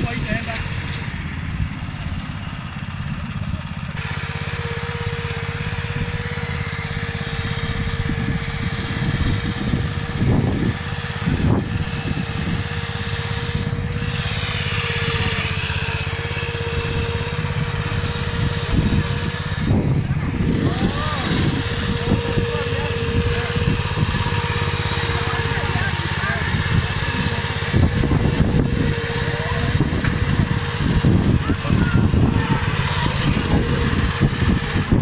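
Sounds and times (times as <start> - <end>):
steady whine: 0.0 - 35.0
tractor engine running: 0.0 - 35.0.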